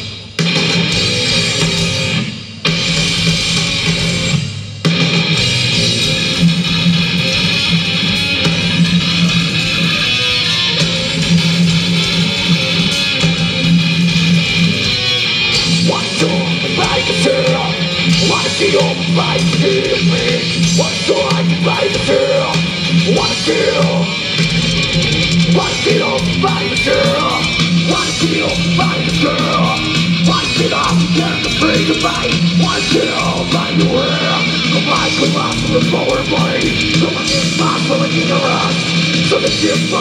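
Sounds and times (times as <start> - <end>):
rock band playing instrumental: 0.0 - 40.0.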